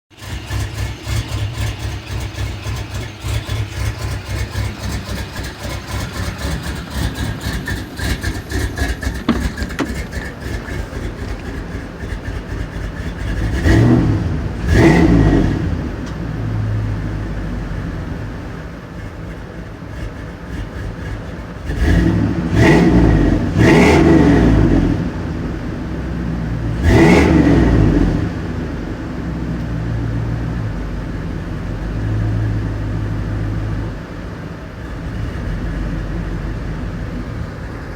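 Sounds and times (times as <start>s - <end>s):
rough idling engine with revs: 0.0s - 37.9s.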